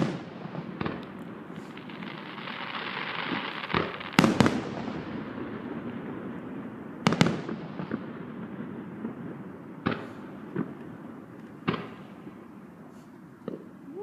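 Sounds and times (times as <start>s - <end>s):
fireworks exploding: 0.0s - 14.0s
steady background noise: 0.0s - 14.0s.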